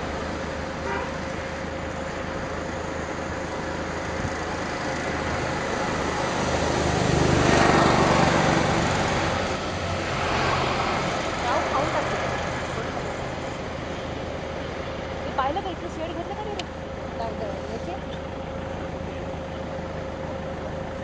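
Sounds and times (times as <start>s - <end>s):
road noise hiss: 0.0s - 21.0s
vehicle engine rumble: 0.0s - 21.0s.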